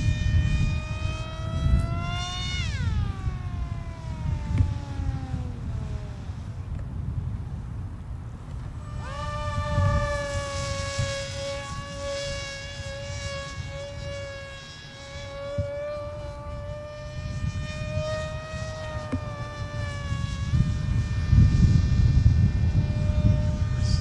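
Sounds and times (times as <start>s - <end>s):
model airplane engine buzzing: 0.0s - 24.0s
wind rumbling on microphone: 0.0s - 24.0s.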